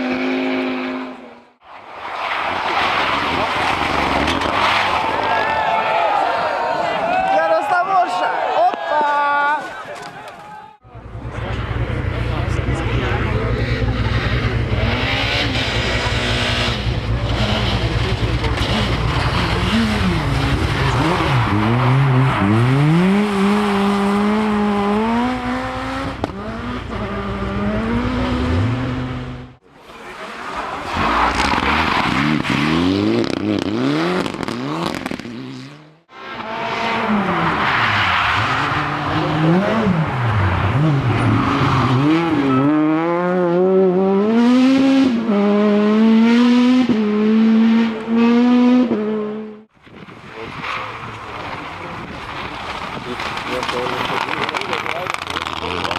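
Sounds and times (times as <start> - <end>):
rally car engine revving: 2.2 - 5.4, 10.8 - 55.9.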